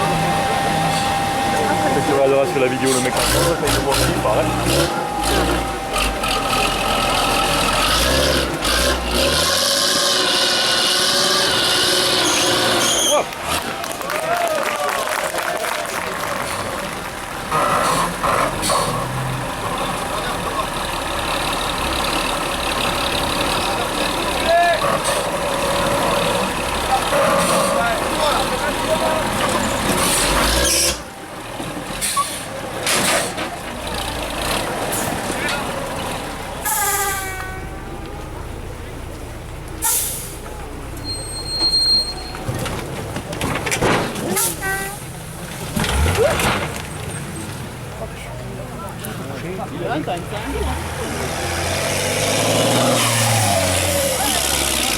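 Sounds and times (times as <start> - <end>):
truck engine at high revs: 0.0 - 14.2, 15.1 - 54.9.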